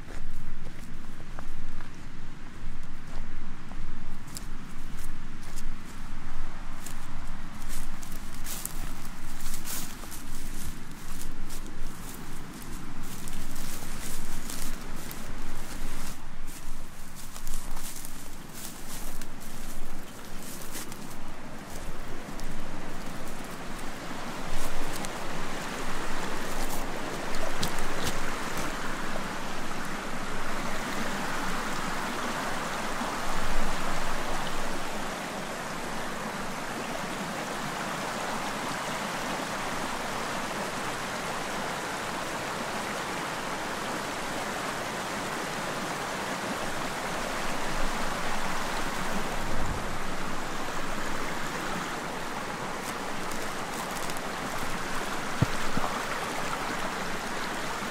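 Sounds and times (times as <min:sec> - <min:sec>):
stream water flowing: 0:00.0 - 0:57.9.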